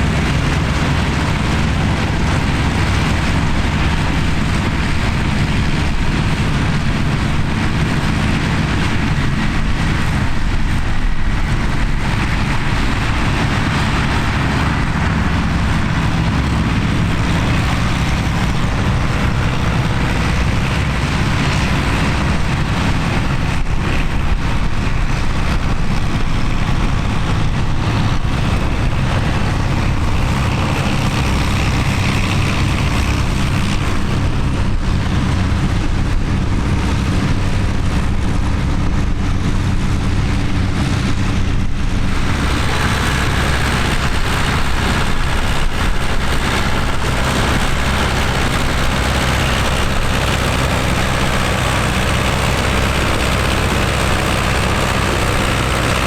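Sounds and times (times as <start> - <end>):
tractor engine rumbling: 0.0 - 56.0.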